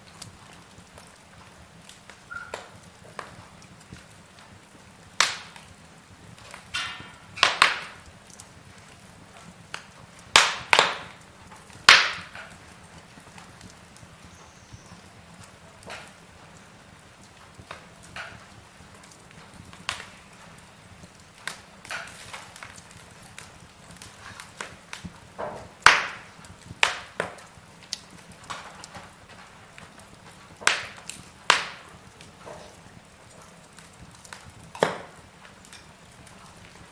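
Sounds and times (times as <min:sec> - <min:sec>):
wood fire crackling and popping: 0:00.0 - 0:36.9.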